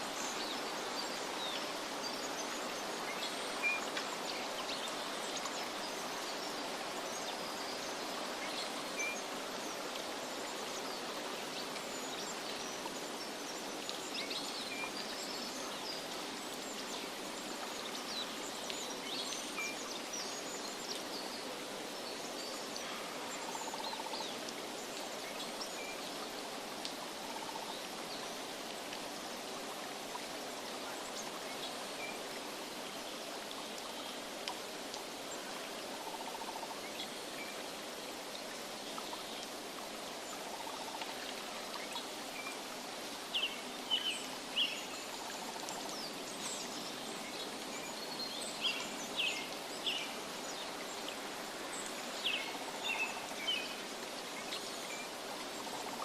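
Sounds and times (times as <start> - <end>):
flowing water: 0.0 - 56.0.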